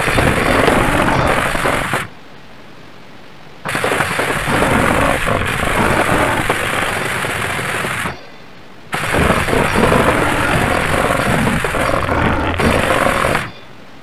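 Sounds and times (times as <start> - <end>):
harsh distorted noise music: 0.0 - 2.1, 3.6 - 8.2, 8.9 - 13.7
faint hiss: 0.0 - 14.0.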